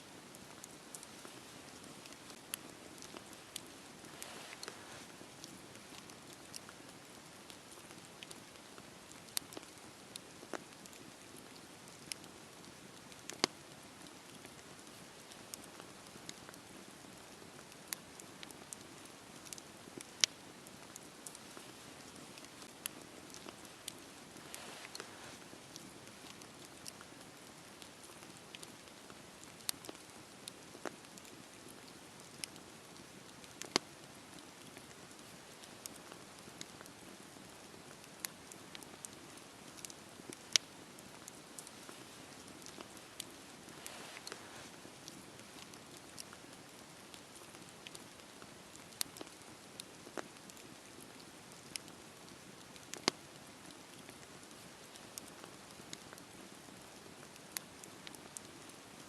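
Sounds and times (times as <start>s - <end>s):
wood fire crackling: 0.0s - 59.0s
fire popping and snapping: 0.1s - 59.0s.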